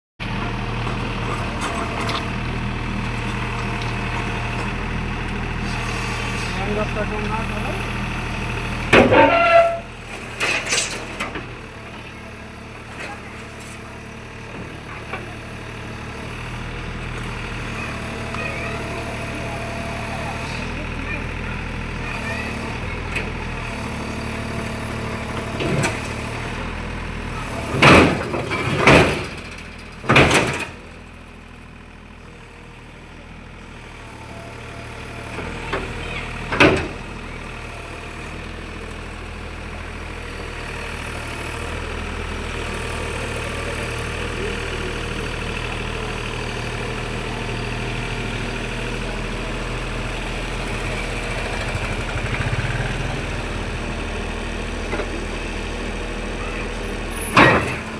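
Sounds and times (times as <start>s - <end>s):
diesel engine running: 0.2s - 57.9s.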